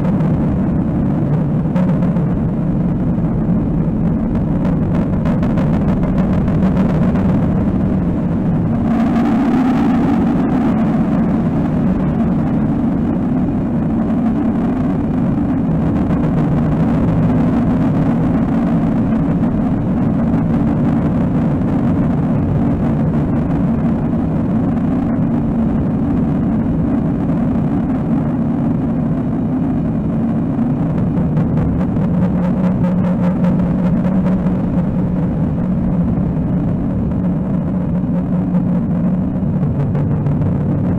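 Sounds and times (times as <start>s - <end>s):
low rumbling noise drone: 0.0s - 40.9s.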